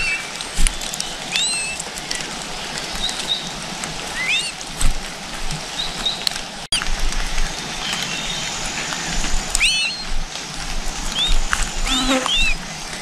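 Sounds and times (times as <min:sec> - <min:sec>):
small birds chirping: 0:00.0 - 0:13.0
steady hiss: 0:00.2 - 0:13.0.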